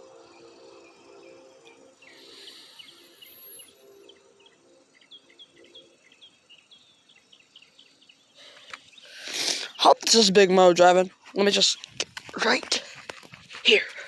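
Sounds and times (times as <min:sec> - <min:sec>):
small birds chirping: 0:00.2 - 0:14.0.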